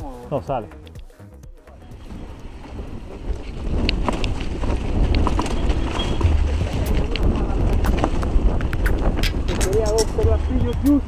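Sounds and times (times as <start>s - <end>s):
tyres on dirt and leaves: 1.8s - 11.0s
wind rumble on microphone: 1.8s - 11.0s
bike clicks and rattles: 2.0s - 11.0s.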